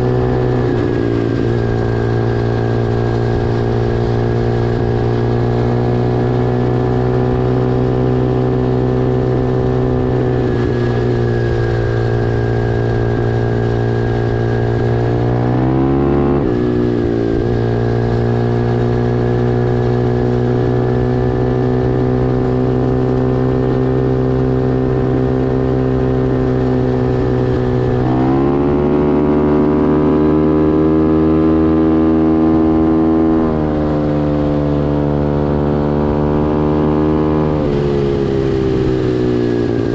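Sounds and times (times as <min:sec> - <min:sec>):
pit bike engine at high revs: 0:00.0 - 0:39.9.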